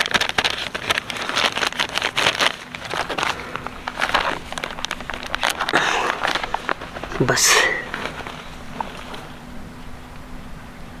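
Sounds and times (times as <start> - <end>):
spice packet crinkling: 0.0 - 9.4.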